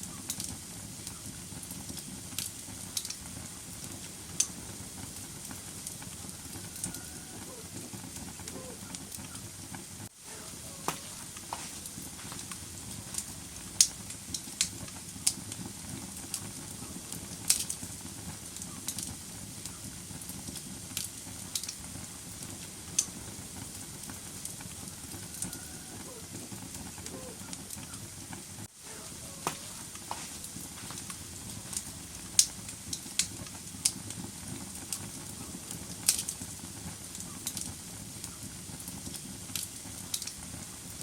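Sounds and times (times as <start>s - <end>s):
fire crackling and popping: 0.0s - 41.0s
fire flames rushing: 0.1s - 41.0s.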